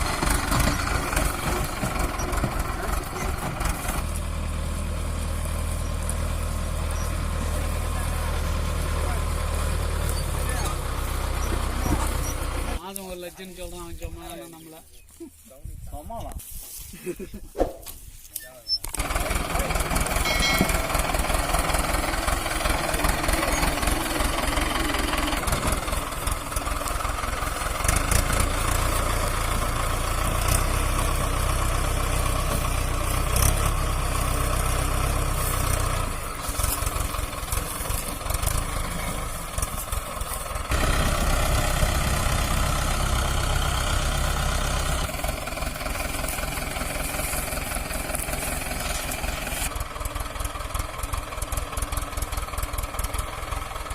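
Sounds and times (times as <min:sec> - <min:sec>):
diesel tractor engines knocking: 0:00.0 - 0:14.4, 0:18.8 - 0:53.9.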